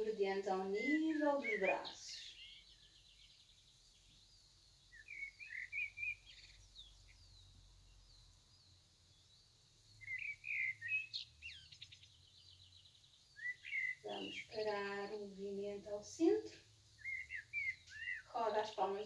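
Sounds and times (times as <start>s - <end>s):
small bird twittering: 0.6s - 15.1s, 16.9s - 19.0s.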